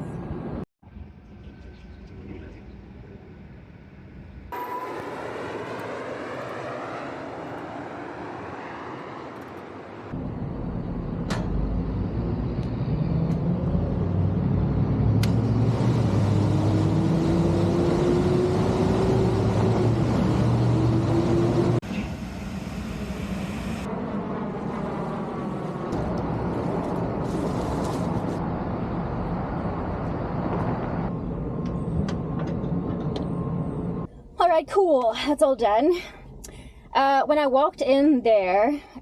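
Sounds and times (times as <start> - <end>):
rooftop air unit droning: 0.0 - 39.0.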